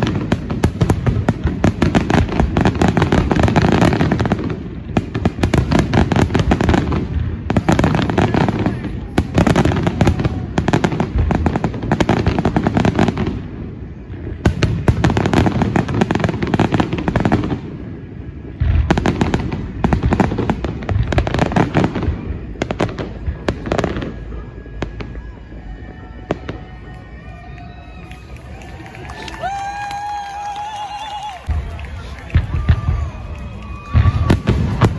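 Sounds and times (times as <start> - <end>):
fireworks crackling: 0.0 - 34.9.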